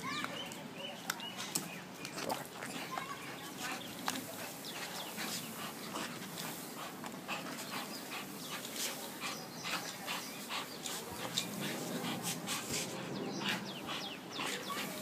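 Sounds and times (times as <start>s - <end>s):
dog panting: 2.3s - 15.0s.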